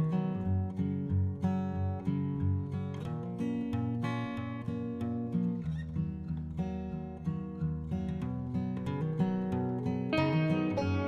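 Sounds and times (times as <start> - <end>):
acoustic guitar picked and strummed: 0.0 - 11.0.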